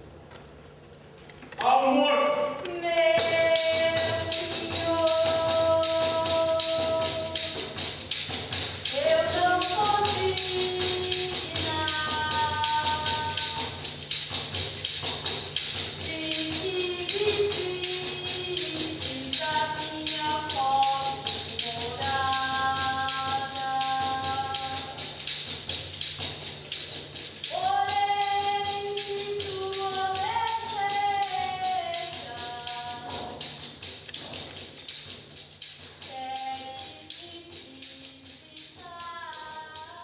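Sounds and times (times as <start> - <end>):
tambourine jingling: 2.4 - 40.0.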